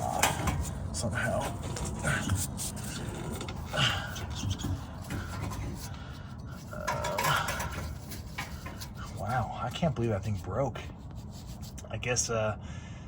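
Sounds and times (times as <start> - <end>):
metal scraping and clinking: 0.0 - 11.8.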